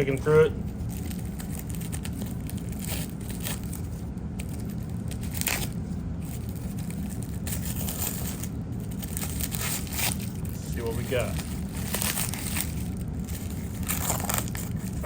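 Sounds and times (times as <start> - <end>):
firecracker wrapping being torn: 0.8 - 15.0.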